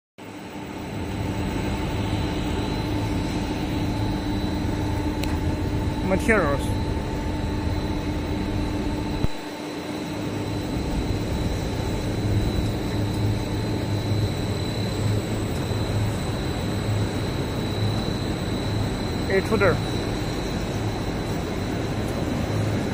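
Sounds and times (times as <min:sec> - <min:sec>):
high whine: 0:00.2 - 0:22.9
low pulsing hum: 0:00.2 - 0:22.9
machinery drone: 0:00.2 - 0:22.9.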